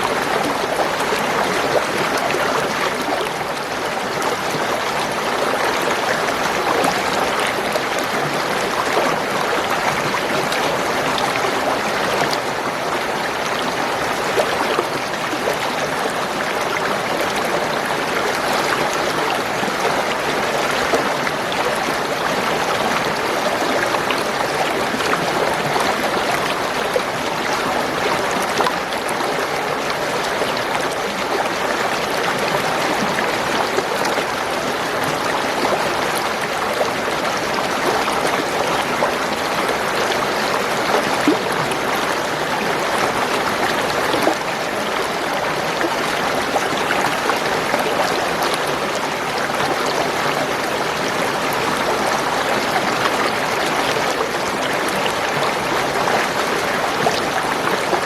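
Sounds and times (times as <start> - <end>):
water gurgling and trickling: 0.0 - 58.0.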